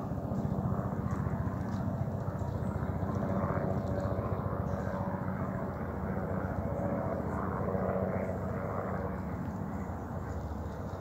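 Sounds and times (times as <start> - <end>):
low pulsing engine drone: 0.0 - 11.0.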